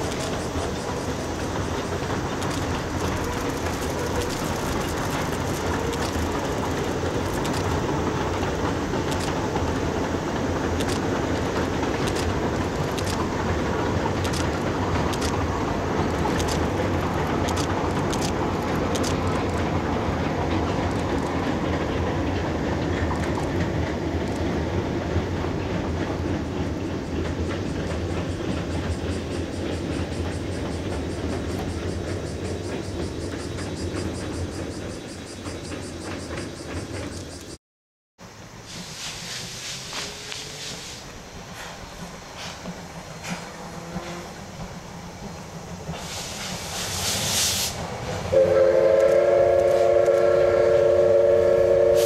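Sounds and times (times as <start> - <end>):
steam train rumbling on bridge: 0.0 - 37.6, 38.2 - 52.0
wheels clicking over rail joints: 0.0 - 37.6, 38.6 - 48.3.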